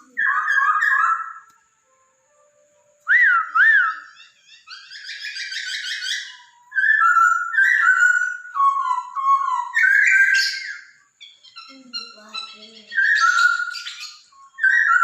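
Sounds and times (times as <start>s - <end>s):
bird whistling song: 0.0s - 2.0s, 3.0s - 15.0s.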